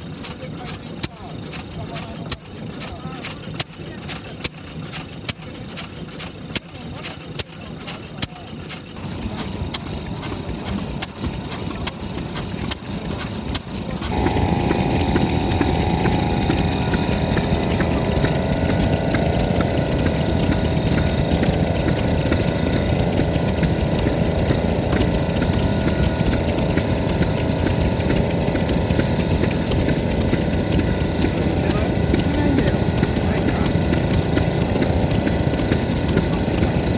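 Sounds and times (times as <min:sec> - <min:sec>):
stationary engine running: 0:00.0 - 0:36.9.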